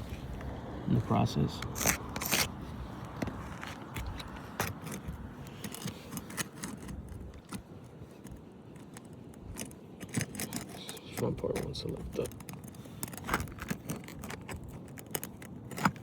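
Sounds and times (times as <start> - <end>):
metal scraping against shingle: 0.0 - 16.0.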